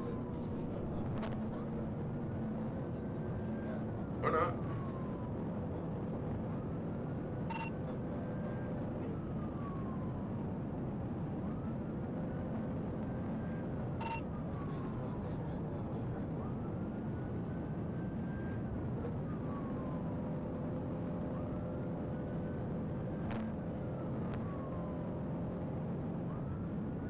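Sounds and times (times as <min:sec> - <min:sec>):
police siren wailing: 0:00.0 - 0:27.0
road and engine noise: 0:00.0 - 0:27.0.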